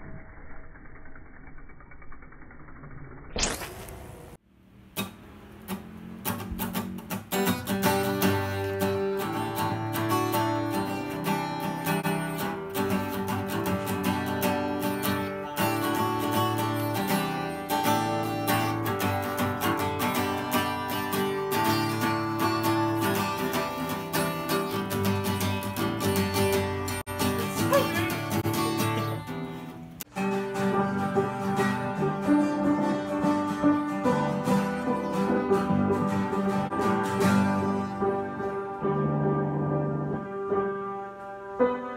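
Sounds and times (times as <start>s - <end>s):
acoustic guitar strumming chords: 5.0s - 39.5s.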